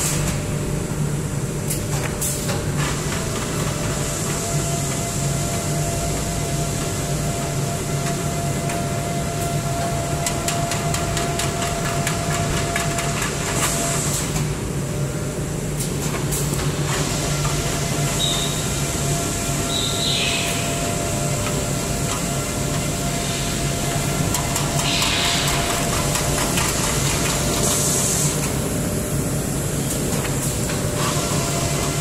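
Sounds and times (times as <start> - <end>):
machine rumble and hum: 0.0 - 32.0.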